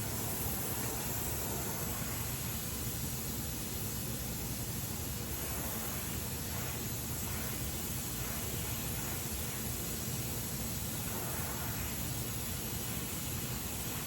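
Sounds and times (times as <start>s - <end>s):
welding torch flame hissing: 0.0s - 4.1s, 5.1s - 14.0s.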